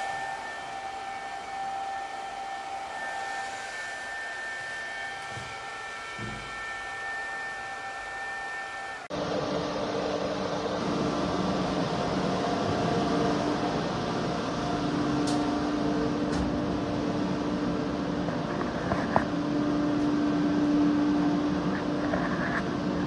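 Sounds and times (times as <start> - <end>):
inverter hum and fan whir: 0.0 - 23.0.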